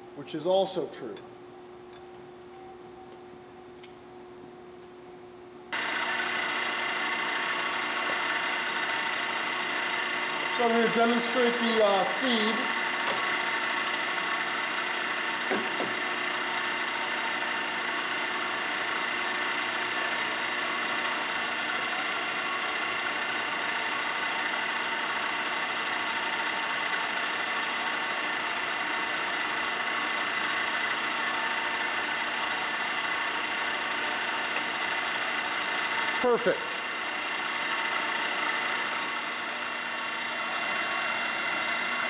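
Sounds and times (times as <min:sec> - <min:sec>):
drill press gear whine and hum: 0:00.0 - 0:42.0.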